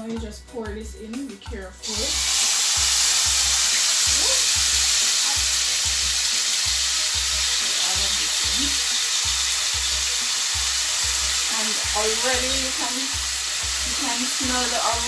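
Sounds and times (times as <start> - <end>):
paste sizzling in hot oil: 1.8 - 15.0
low regular pulses: 2.8 - 15.0.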